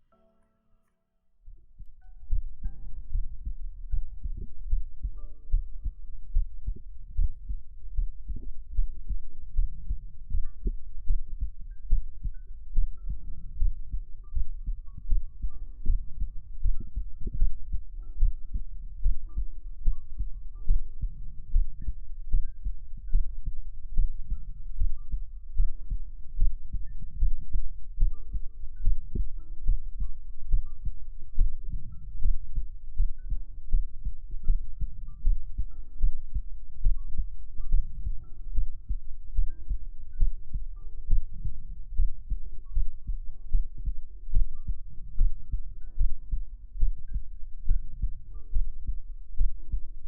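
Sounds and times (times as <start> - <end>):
faint tinkling melody: 0.0 - 50.0
heartbeat thumps: 1.5 - 50.0.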